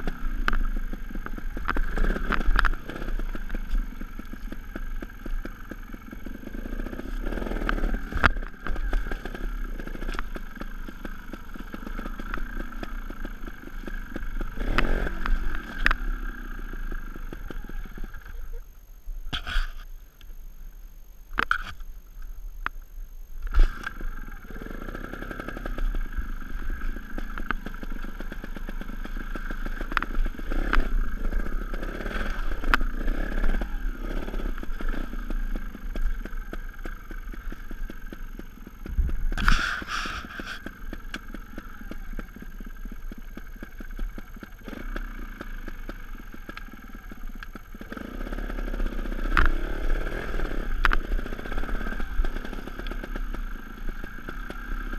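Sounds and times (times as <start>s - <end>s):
clatter and clicks: 0.0s - 18.6s, 23.4s - 54.9s
motorcycle engine revving: 0.0s - 18.6s, 23.4s - 54.9s.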